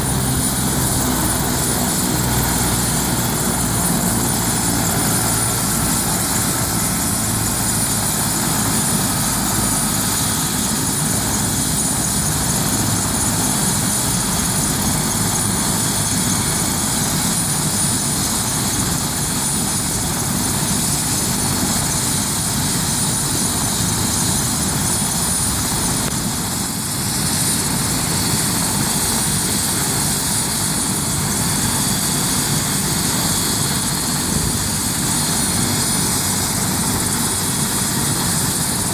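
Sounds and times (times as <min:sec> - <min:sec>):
helicopter rotor rush: 0:00.0 - 0:38.9
helicopter turbine whine: 0:00.0 - 0:38.9.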